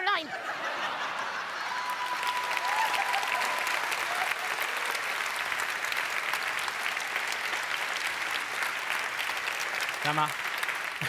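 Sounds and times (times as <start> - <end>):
audience applauding: 1.0 - 11.0.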